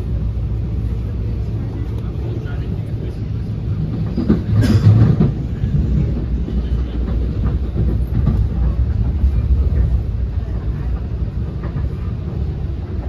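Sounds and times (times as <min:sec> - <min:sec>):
train clatter: 0:00.0 - 0:13.0
train rolling on rails: 0:00.0 - 0:13.0.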